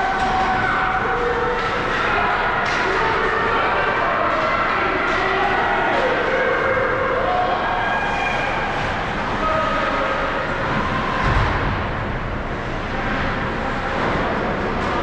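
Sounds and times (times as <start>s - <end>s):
distant spectators' voices: 0.0s - 15.0s
skating play on ice: 0.0s - 15.0s.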